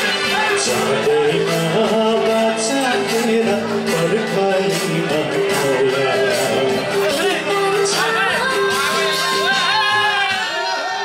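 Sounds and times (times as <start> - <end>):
instrumental accompaniment: 0.0 - 10.7
person singing: 0.0 - 11.0.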